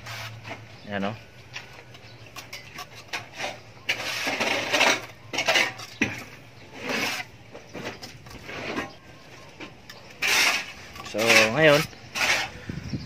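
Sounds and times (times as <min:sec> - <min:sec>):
trowel scraping metal float: 0:00.0 - 0:00.6, 0:02.3 - 0:09.0, 0:09.6 - 0:12.7.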